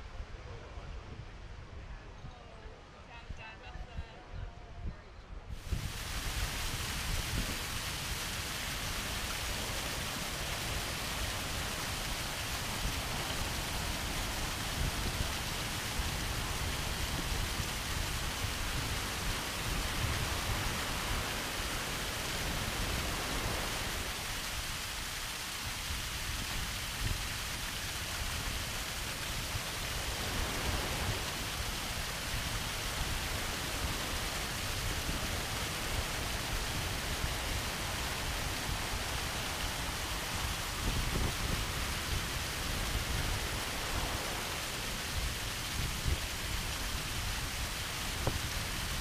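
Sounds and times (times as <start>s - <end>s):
surf washing up beach: 5.5s - 49.0s
small waterfalls spilling: 5.6s - 49.0s.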